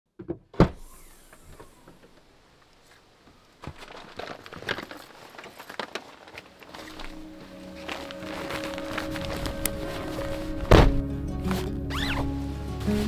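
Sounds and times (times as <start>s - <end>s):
backpack and gear rustling: 1.2s - 13.0s.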